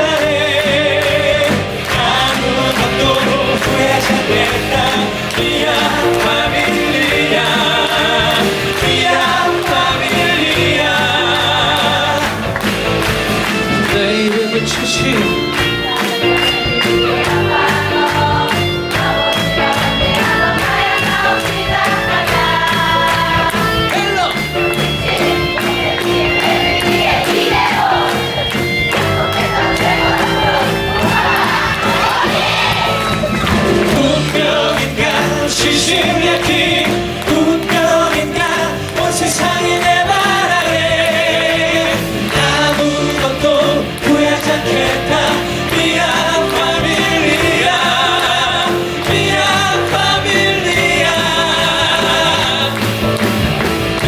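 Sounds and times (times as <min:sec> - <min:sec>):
crowd voices: 0:00.0 - 0:54.0
live band playing: 0:00.0 - 0:54.0.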